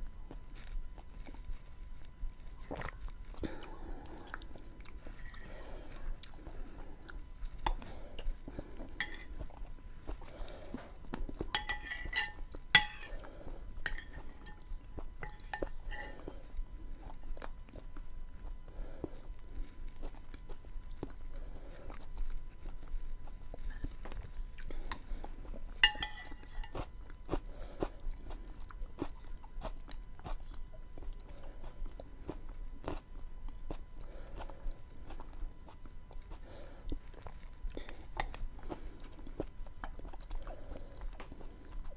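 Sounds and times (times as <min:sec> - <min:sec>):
close chewing and mouth sounds: 0:00.0 - 0:41.9.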